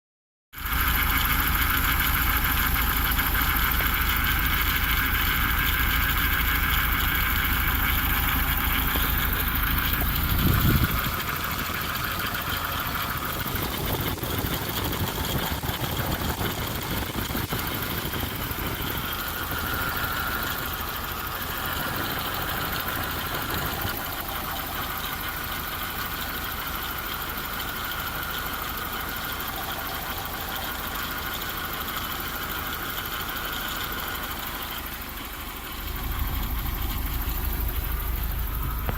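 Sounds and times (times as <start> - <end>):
van engine idling: 0.6 - 38.9.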